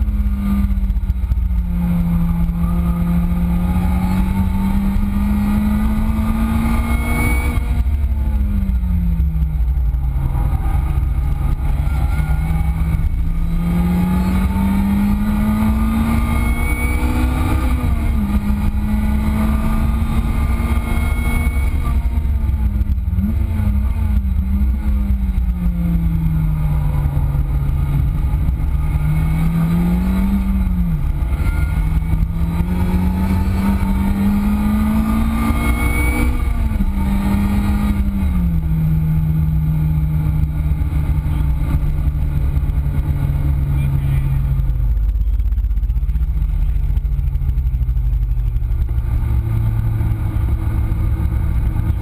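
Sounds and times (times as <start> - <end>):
car engine at high revs: 0.0 - 52.0
wind and road noise: 0.0 - 52.0.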